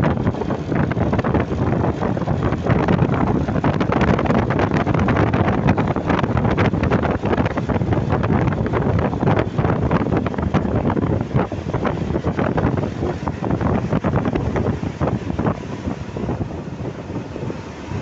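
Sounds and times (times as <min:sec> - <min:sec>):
moving vehicle rumble: 0:00.0 - 0:18.0
wind buffeting microphone: 0:00.0 - 0:18.0.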